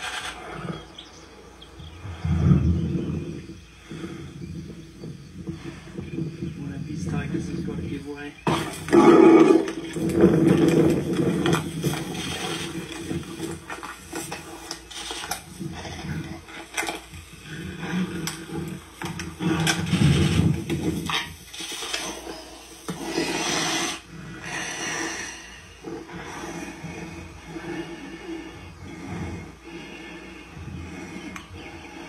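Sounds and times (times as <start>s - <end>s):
tigers growling and snarling: 0.0s - 32.0s.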